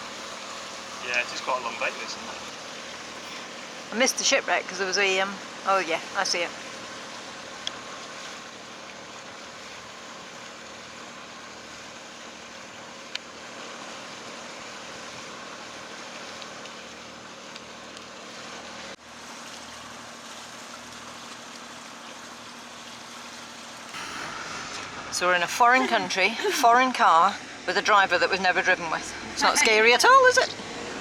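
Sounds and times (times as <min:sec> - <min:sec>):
boat engine running: 0:00.0 - 0:19.0, 0:20.0 - 0:31.0
water hiss: 0:00.0 - 0:28.0
wind: 0:00.0 - 0:31.0.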